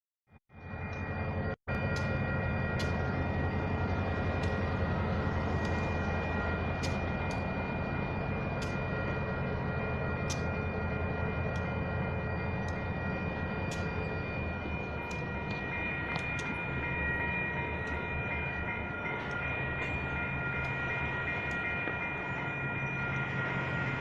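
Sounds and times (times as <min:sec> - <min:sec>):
high ringing tones: 0:00.5 - 0:24.0
diesel locomotive rumbling: 0:00.7 - 0:24.0.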